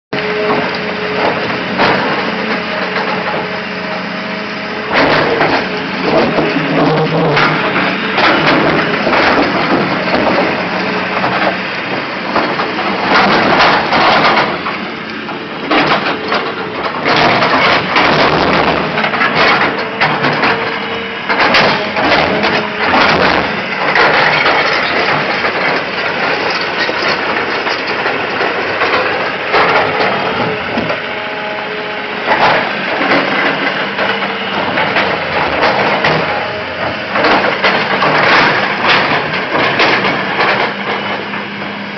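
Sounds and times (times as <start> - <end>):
sharp knocks and cracks: 0.2 - 3.5, 4.9 - 31.0, 32.3 - 41.5
excavator engine and machinery: 0.2 - 41.9.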